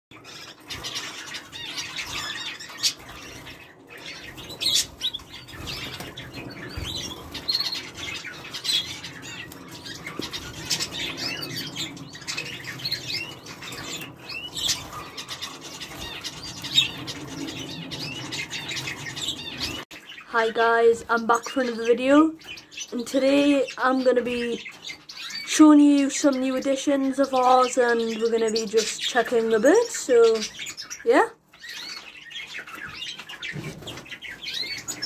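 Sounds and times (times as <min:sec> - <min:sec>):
small birds chirping: 0:00.1 - 0:35.0.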